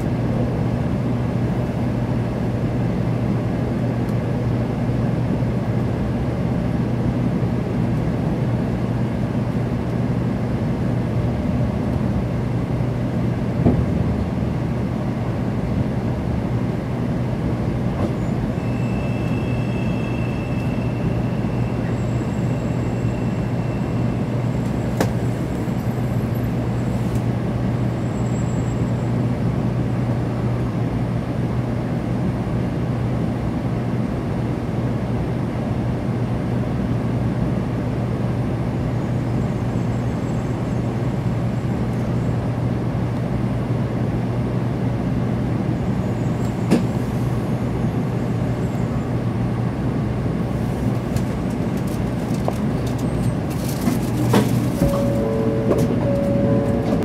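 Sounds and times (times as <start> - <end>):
train low rumble and hum: 0.0 - 57.0.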